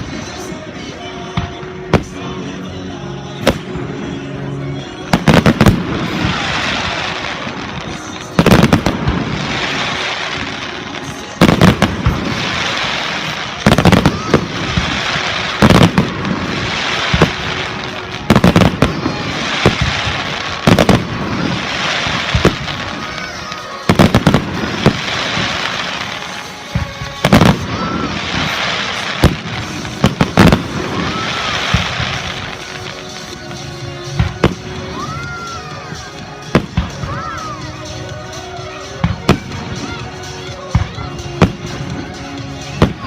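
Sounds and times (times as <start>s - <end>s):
fireworks bursting with bangs: 0.0s - 43.0s
fireworks crackling: 0.0s - 43.0s
music playing: 0.0s - 43.0s.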